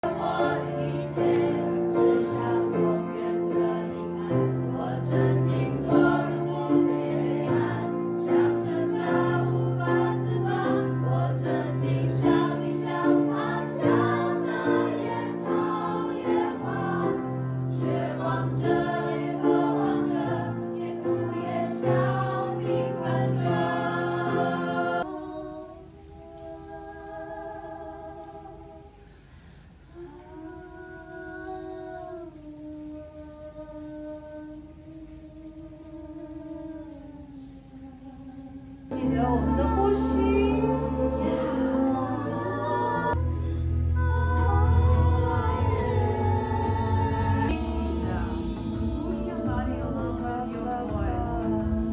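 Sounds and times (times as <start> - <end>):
group of voices singing: 0.0 - 29.1, 37.4 - 51.9.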